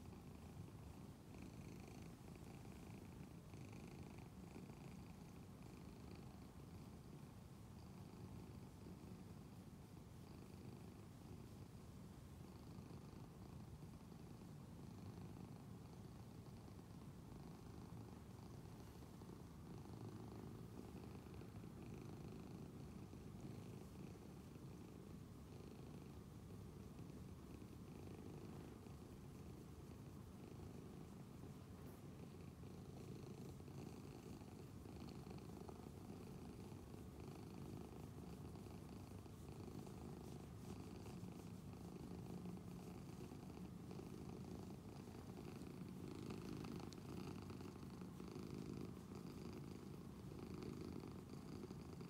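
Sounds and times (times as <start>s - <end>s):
cat purring: 0.0s - 52.0s.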